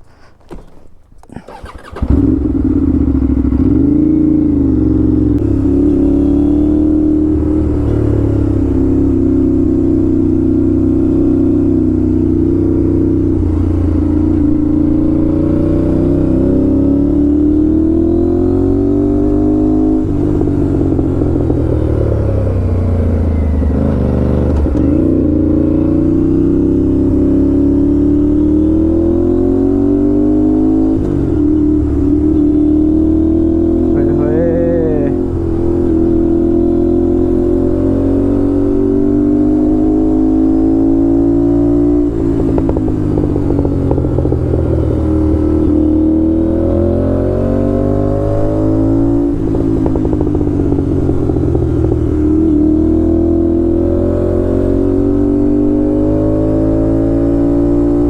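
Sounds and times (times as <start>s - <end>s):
motorcycle engine revving: 0.4s - 58.0s.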